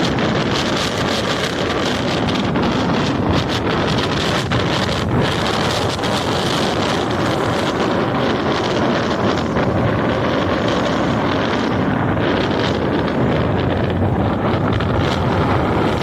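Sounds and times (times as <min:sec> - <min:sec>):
rough sea breaking: 0:00.0 - 0:16.0
wind blowing across microphone: 0:00.0 - 0:16.0.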